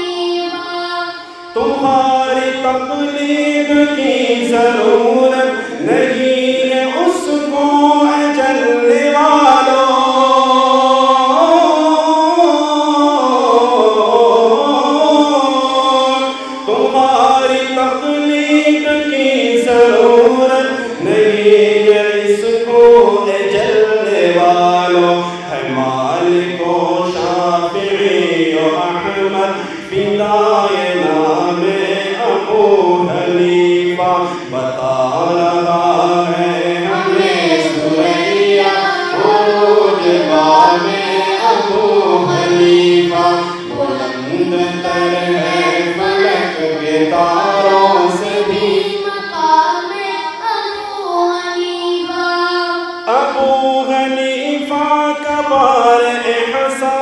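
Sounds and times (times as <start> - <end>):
person singing melismatic chant: 0.0 - 57.0.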